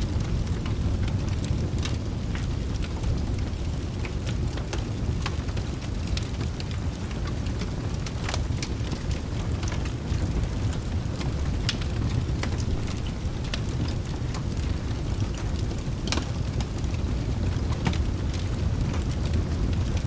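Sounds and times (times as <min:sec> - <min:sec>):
low rumble of rain: 0:00.0 - 0:20.0
wood fire crackling and popping: 0:00.0 - 0:20.0.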